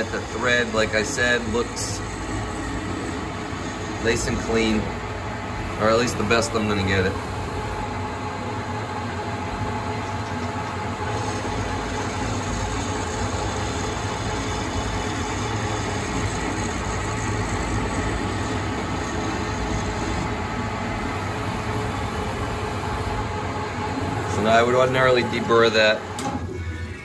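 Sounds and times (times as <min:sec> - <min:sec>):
lathe machine hum: 0:00.0 - 0:27.0.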